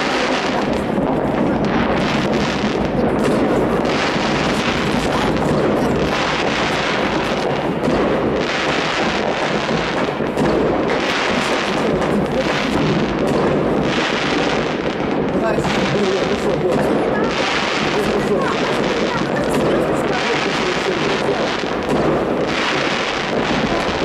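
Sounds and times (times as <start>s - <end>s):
distant fireworks and firecrackers: 0.0s - 24.0s.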